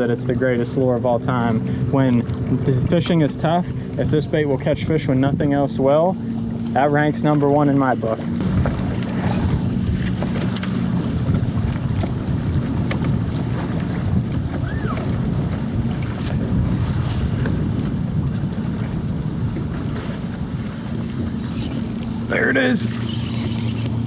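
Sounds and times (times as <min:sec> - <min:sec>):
water lapping at a boat: 0:00.0 - 0:24.0
wind buffeting microphone: 0:00.0 - 0:24.0.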